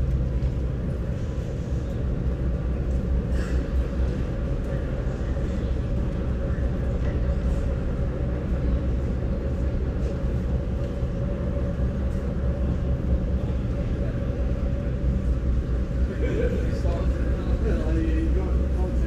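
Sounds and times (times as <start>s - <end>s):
low rumble of vehicles: 0.0s - 19.0s.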